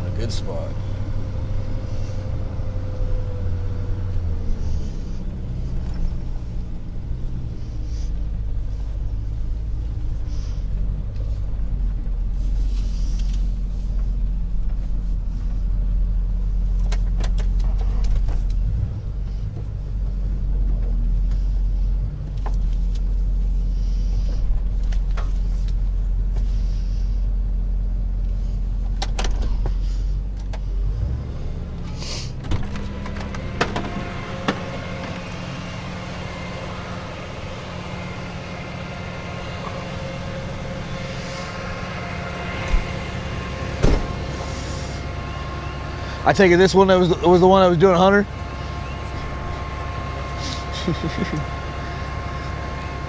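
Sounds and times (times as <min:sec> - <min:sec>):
tow truck engine rumbling: 0:00.0 - 0:53.0.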